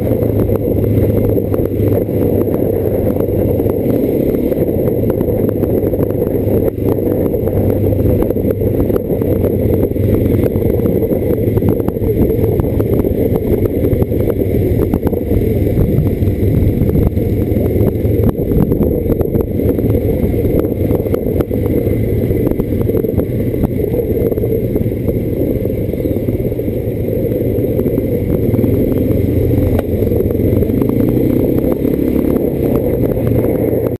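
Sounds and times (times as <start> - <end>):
knocks and rattles from bumpy ride: 0.0 - 33.9
quad bike engine running: 0.0 - 33.9.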